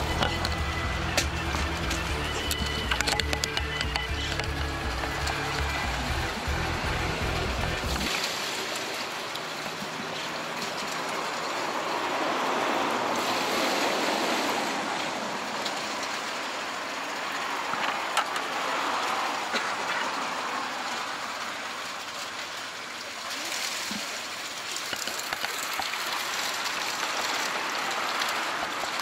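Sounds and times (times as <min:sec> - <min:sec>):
running water rushing in tank: 0:00.0 - 0:29.0.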